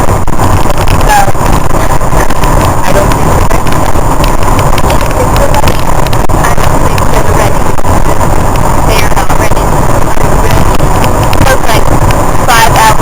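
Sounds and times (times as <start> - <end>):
loud steady rumbling: 0.0 - 13.0
indistinct voices: 0.9 - 7.8, 8.8 - 13.0.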